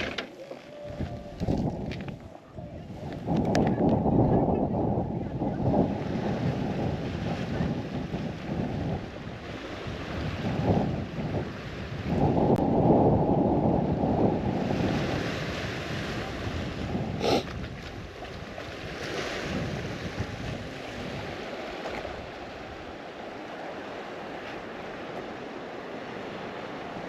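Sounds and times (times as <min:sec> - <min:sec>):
wind buffeting microphone: 0:00.8 - 0:27.0.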